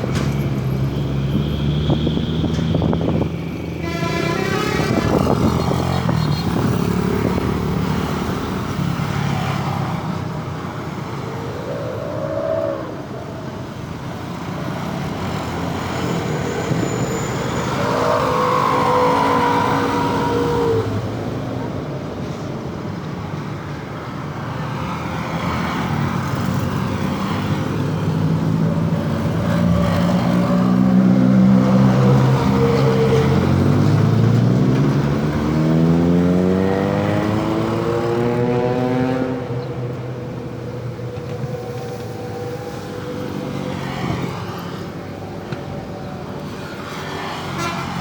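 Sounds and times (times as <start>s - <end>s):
traffic noise: 0.0s - 48.0s.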